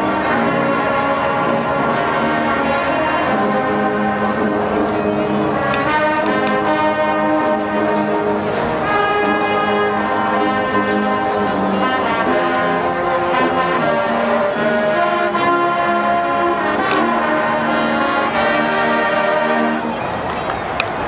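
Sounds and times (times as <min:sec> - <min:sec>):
brass sustained chords: 0:00.0 - 0:20.1
marching band playing: 0:00.0 - 0:20.3.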